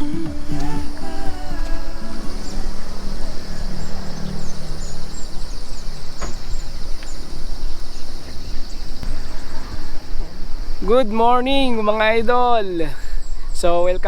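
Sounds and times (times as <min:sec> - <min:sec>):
wind rumbling on microphone: 0:00.0 - 0:13.6
high insect drone: 0:00.0 - 0:13.8
bird chirps: 0:00.0 - 0:14.0.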